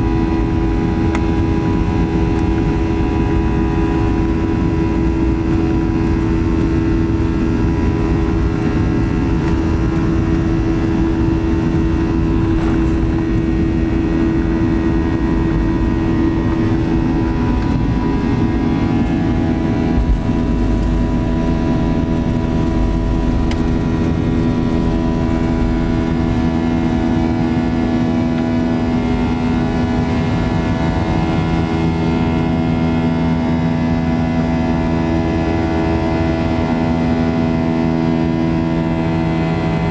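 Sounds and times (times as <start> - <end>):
jet engines droning: 0.0 - 39.9
low runway rumble: 0.0 - 39.9.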